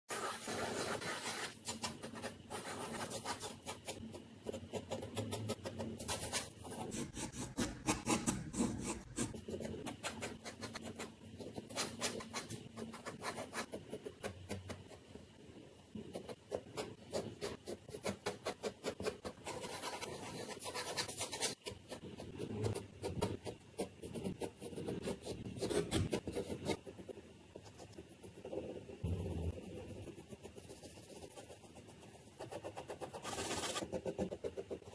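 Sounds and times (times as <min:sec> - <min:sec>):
pencil scratching on paper: 0:00.1 - 0:15.1, 0:16.0 - 0:34.9.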